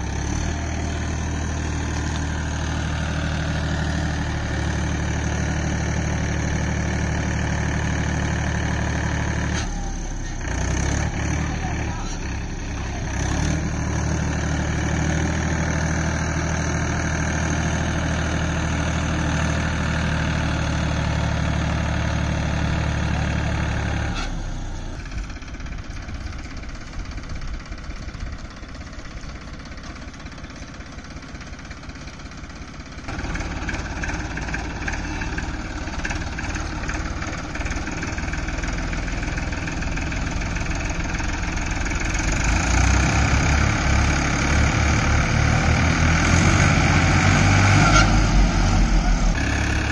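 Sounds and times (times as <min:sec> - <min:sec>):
tractor diesel engine idling: 0:00.0 - 0:49.9.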